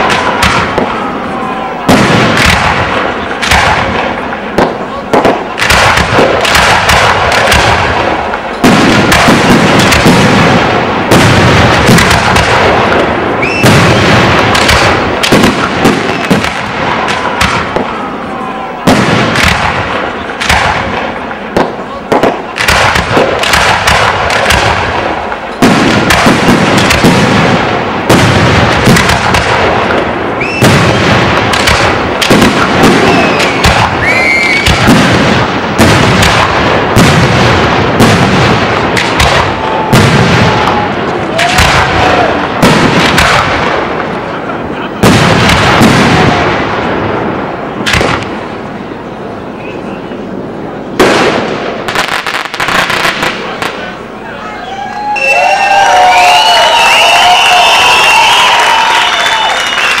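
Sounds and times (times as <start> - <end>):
fireworks bursts and crackle: 0.0 - 60.0.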